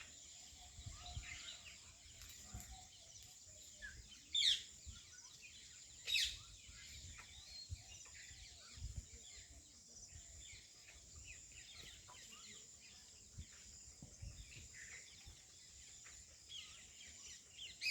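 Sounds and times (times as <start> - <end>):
small birds chirping: 0.0 - 17.9.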